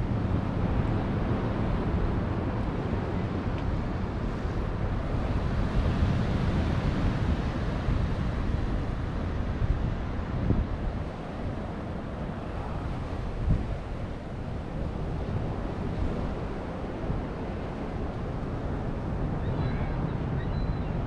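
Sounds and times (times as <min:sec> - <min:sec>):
ocean surf breaking: 0:00.0 - 0:20.4
wind buffeting microphone: 0:00.0 - 0:21.0.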